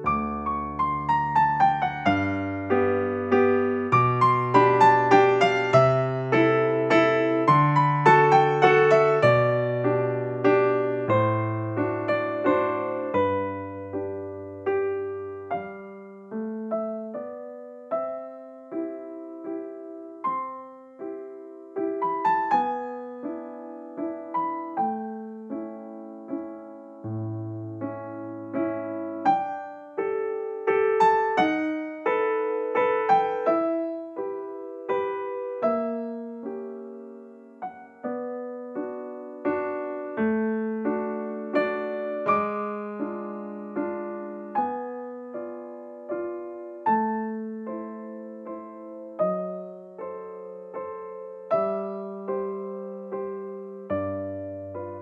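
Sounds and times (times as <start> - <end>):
slow keyboard melody: 0.0 - 55.0.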